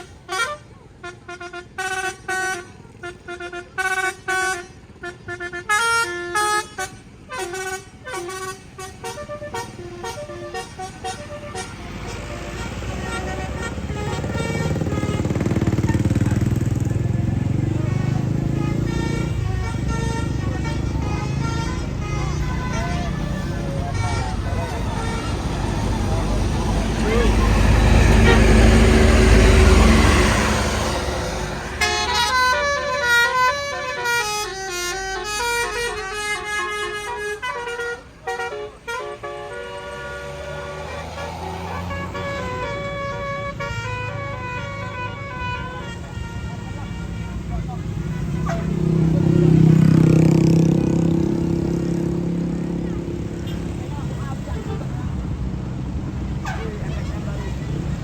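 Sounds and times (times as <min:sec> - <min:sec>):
musical horn toots: 0:00.0 - 0:53.7
bus engine passing: 0:00.0 - 0:58.0
vehicle noise: 0:00.0 - 0:58.0.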